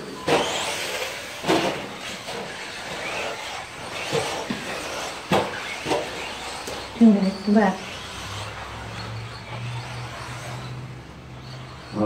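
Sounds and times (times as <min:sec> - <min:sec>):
rc truck motors and tyres hissing: 0:00.0 - 0:12.0.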